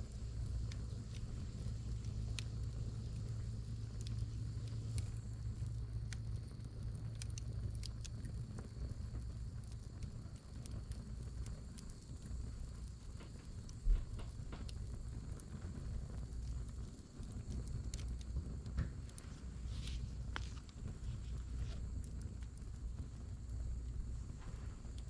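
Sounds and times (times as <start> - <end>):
firewood crackling and popping: 0.0 - 25.0
low fire rumble: 0.0 - 25.0.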